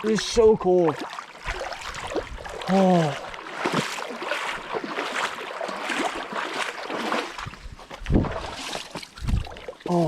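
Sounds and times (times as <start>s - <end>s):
water splashing around legs: 0.0s - 10.0s.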